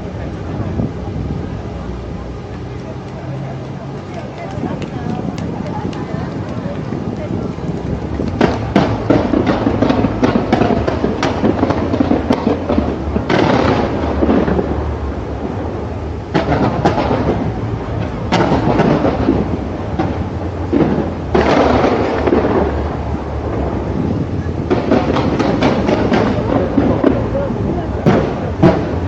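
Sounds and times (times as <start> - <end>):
fireworks booming and crackling: 0.0 - 29.0.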